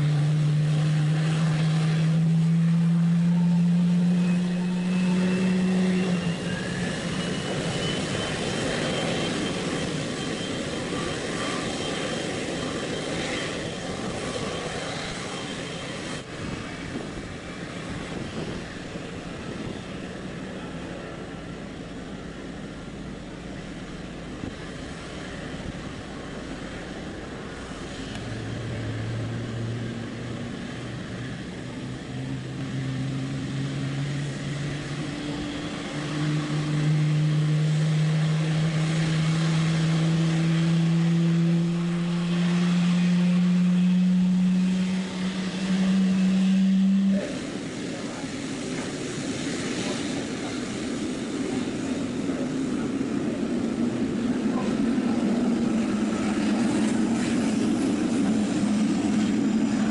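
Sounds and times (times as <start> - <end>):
dull engine rumble: 0.0 - 59.9
jet engine whine: 0.0 - 59.9.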